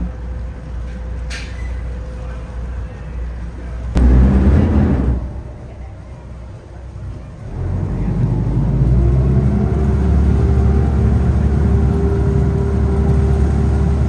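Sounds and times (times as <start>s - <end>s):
ferry diesel engines humming: 0.0s - 14.0s.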